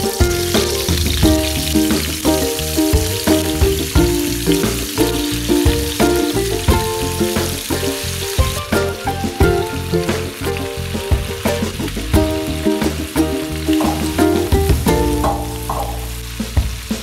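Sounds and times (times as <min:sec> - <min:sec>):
background music with steady beat: 0:00.0 - 0:17.0
chicken sizzling in hot oil: 0:00.0 - 0:17.0.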